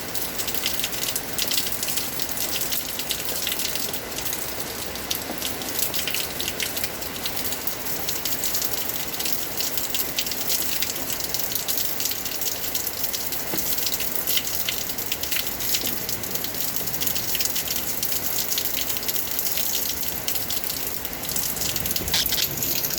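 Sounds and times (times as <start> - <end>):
heavy rain on hard surface: 0.0 - 22.9.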